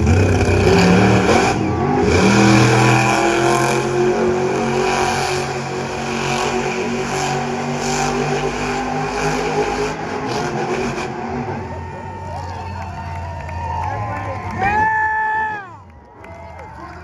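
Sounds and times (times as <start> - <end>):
truck engine revving: 0.0 - 14.8.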